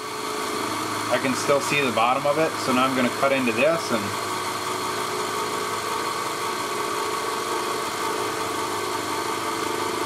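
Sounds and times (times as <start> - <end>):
milling machine hum and whine: 0.0 - 10.0.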